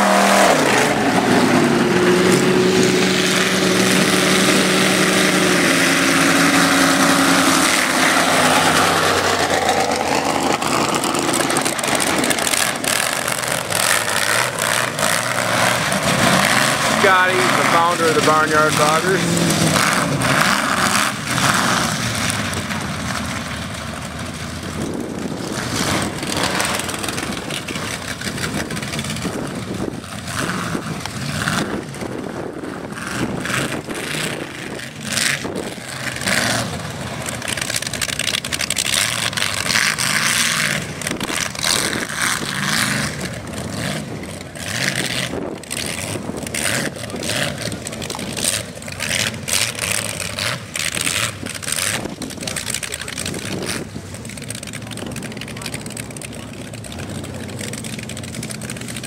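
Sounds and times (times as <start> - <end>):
truck engines running: 0.0 - 59.0.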